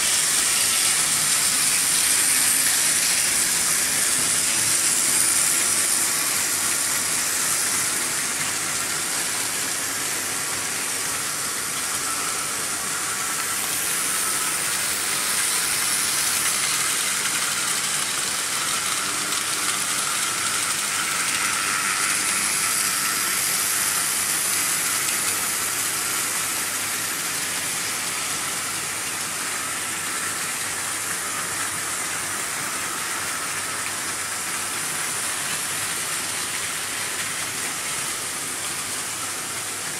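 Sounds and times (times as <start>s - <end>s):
model train wheels rattling on track: 0.0s - 39.9s.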